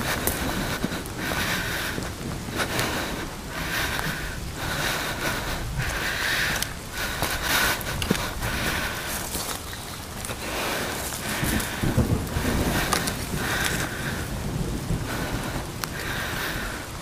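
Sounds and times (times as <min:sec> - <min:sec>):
rain hiss: 0:00.0 - 0:17.0
wind buffeting microphone: 0:00.0 - 0:17.0.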